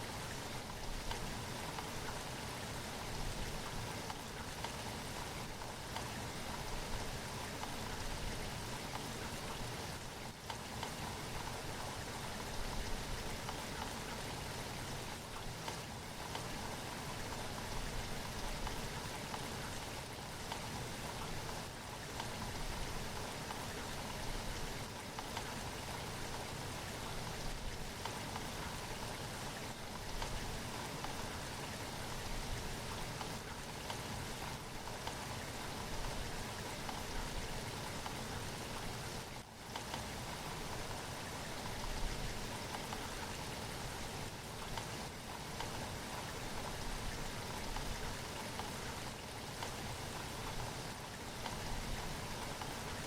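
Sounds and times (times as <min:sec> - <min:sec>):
rain patter on a surface: 0:00.0 - 0:53.0.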